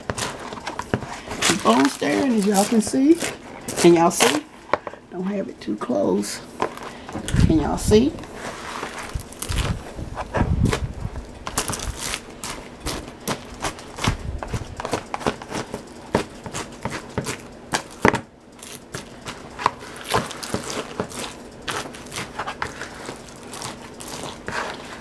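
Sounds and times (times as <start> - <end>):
spatula stirring sticky cereal mix: 0.0 - 4.8, 7.7 - 10.4, 11.5 - 25.0
crackling clicks and scrapes: 0.0 - 5.0, 8.2 - 25.0.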